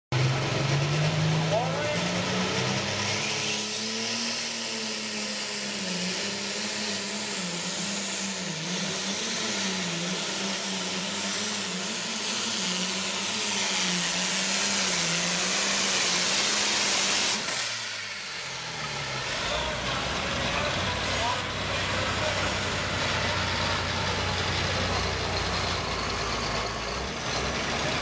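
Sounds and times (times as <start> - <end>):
tractor engine at full throttle: 0.1 - 28.0.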